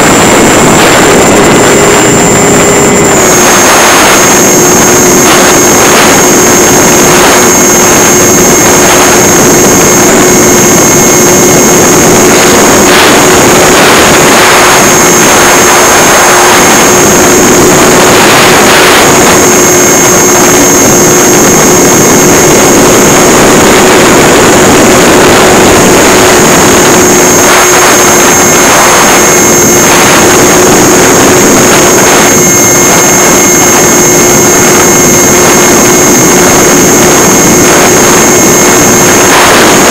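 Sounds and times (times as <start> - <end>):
electric motor and propeller whine: 0.0 - 39.9
wind rush over microphone: 0.0 - 39.9.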